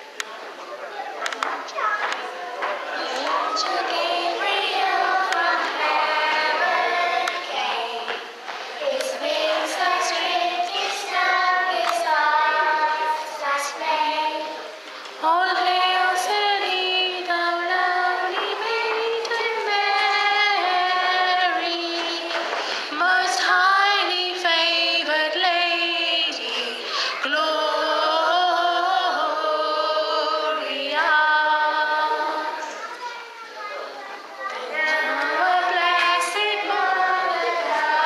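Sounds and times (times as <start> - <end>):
girls singing together: 2.0 - 33.0, 34.4 - 38.0.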